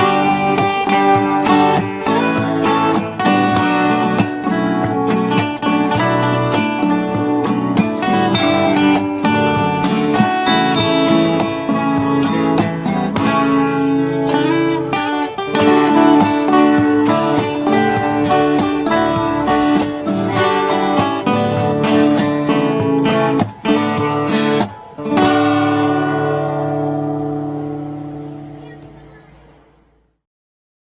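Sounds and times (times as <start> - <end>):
strummed acoustic guitar music: 0.0 - 30.0.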